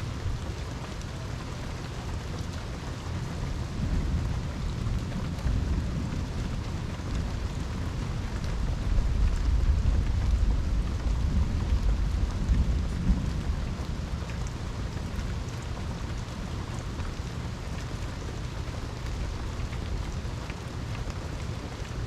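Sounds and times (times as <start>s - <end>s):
low rumble of thunder: 0.0s - 22.0s
steady rain: 0.0s - 22.0s.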